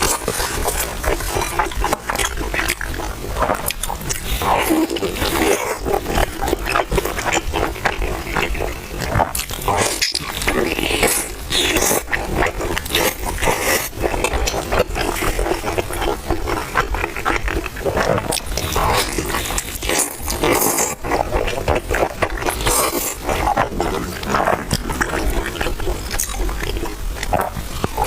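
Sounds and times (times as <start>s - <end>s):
chewing and crunching: 0.0s - 28.0s.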